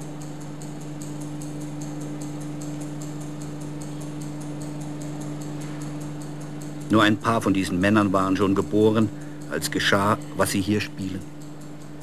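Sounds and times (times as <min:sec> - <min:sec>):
stopwatch ticking: 0:00.0 - 0:12.0.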